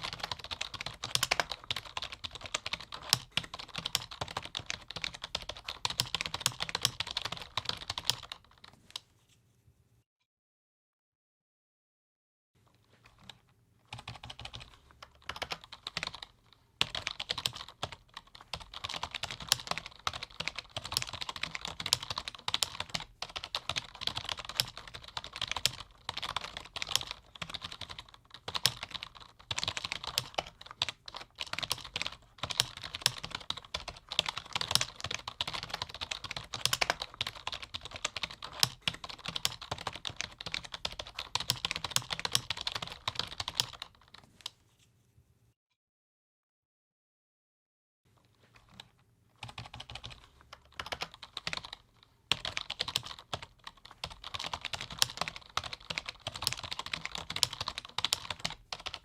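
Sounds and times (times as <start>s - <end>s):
fast typing on keyboard: 0.0s - 8.7s, 13.0s - 44.2s, 48.5s - 59.0s.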